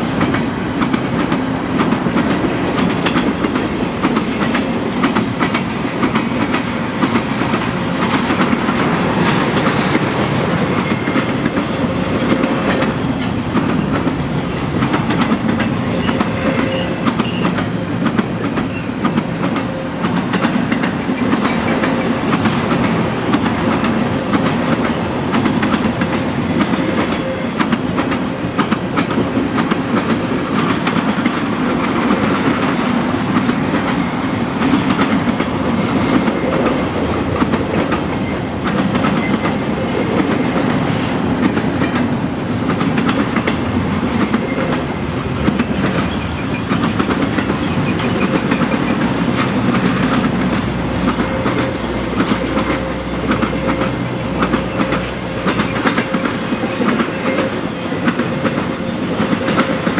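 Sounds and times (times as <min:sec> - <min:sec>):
freight train wheels rumbling: 0:00.0 - 0:59.9
wheels clicking over rail joints: 0:00.1 - 0:59.9.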